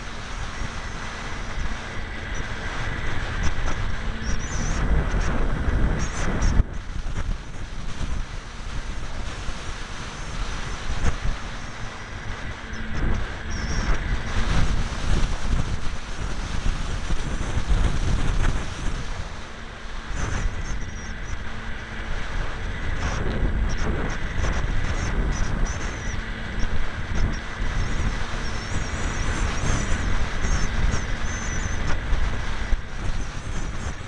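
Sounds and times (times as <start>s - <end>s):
electric motor and propeller hum: 0.0s - 34.0s
wind buffeting microphone: 0.0s - 34.0s.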